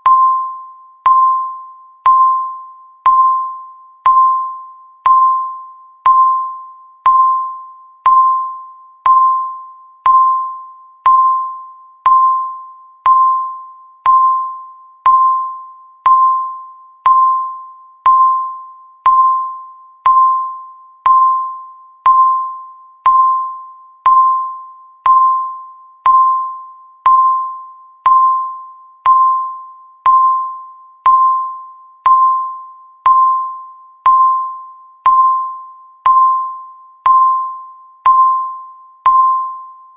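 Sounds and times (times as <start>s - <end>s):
bell-like timer ticks: 0.0s - 39.9s.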